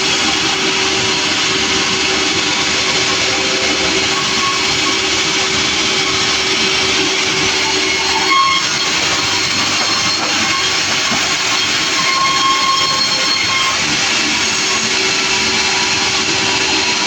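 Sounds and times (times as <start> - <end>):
sawmill machine whine: 0.0 - 17.0.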